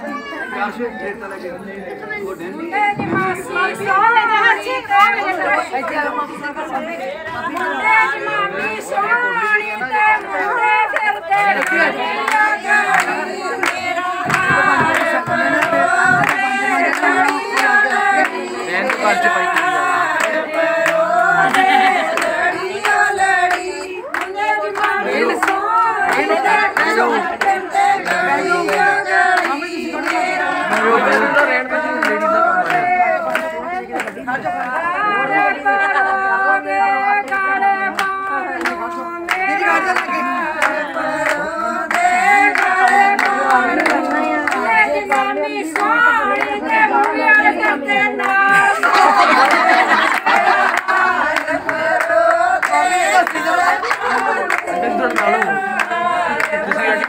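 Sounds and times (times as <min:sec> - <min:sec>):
women singing folk song: 0:02.6 - 0:57.0
rhythmic hand-clapping: 0:02.7 - 0:57.0.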